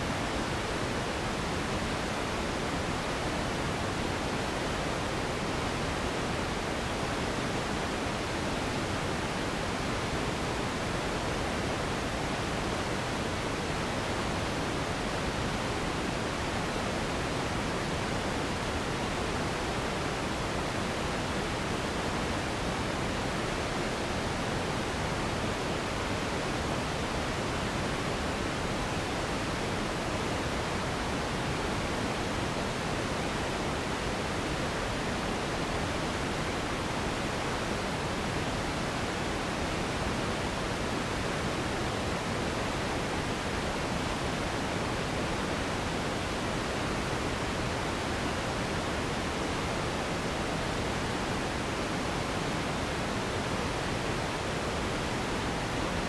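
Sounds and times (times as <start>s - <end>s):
steady generated hiss: 0.0s - 56.0s.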